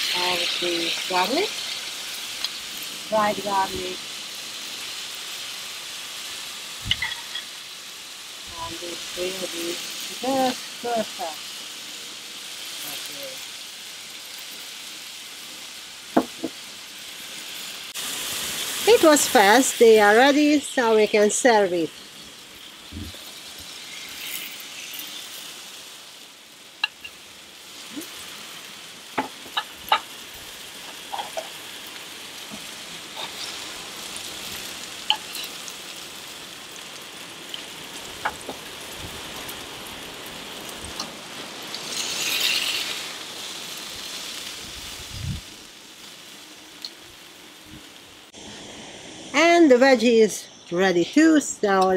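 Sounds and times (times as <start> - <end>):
steak sizzling on a griddle: 0.0 - 51.9.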